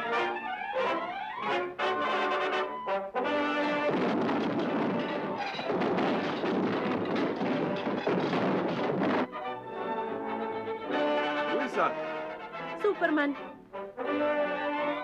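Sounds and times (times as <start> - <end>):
orchestral cartoon music with brass: 0.0 - 15.0.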